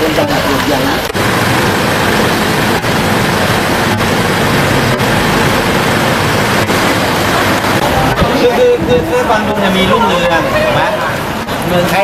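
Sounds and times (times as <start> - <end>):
loud steady rushing noise: 0.0 - 12.0.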